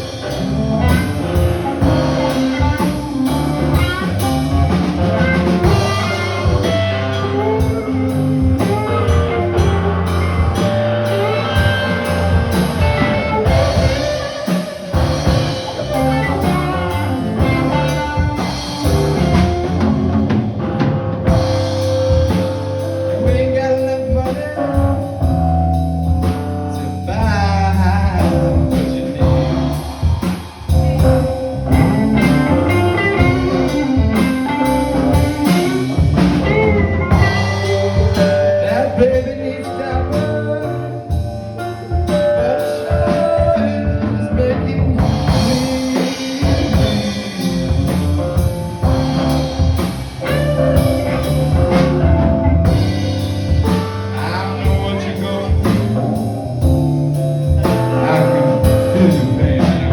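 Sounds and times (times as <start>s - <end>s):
live blues band playing: 0.0s - 59.9s.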